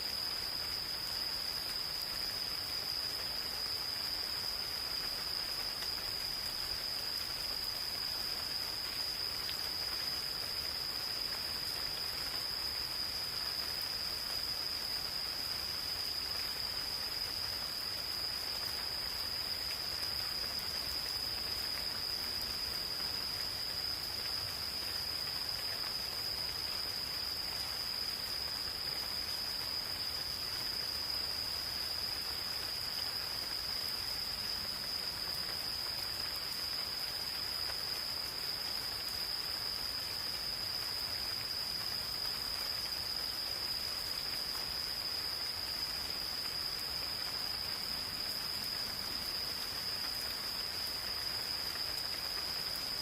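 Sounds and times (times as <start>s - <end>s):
gentle rain patter: 0.0s - 53.0s
insects trilling: 0.0s - 53.0s.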